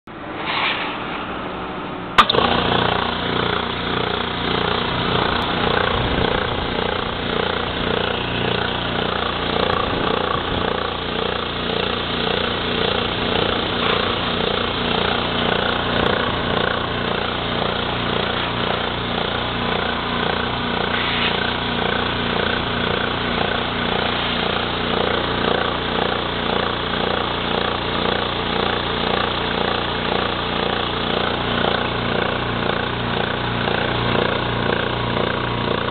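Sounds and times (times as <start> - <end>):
air compressor running: 2.2 - 35.9.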